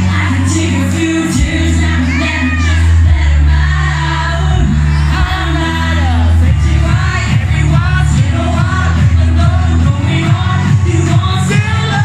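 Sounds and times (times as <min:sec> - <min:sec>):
dance music with strong bass: 0:00.0 - 0:12.0
woman singing: 0:00.0 - 0:12.0.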